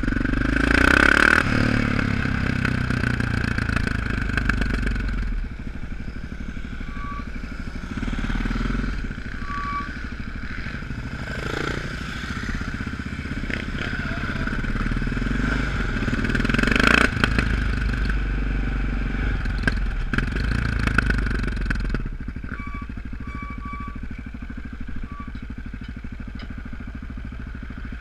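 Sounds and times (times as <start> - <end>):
motorcycle engine: 0.0 - 28.0.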